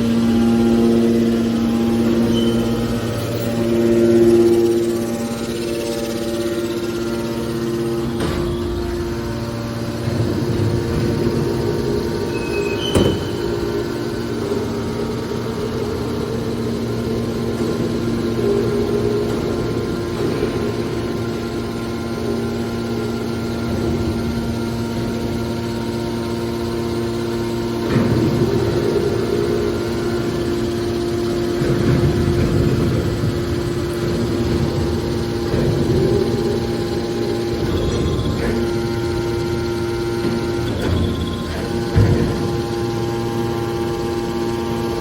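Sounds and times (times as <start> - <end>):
motor and hydraulic pump hum: 0.0 - 45.0.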